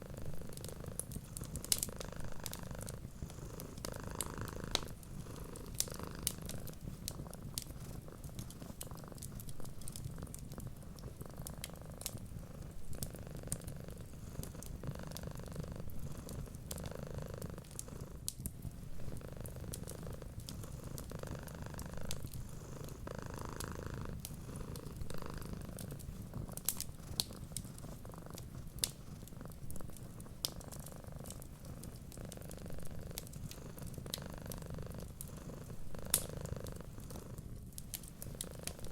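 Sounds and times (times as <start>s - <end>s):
wood fire crackling: 0.0s - 16.9s, 17.6s - 38.9s
cat purring: 0.0s - 38.9s.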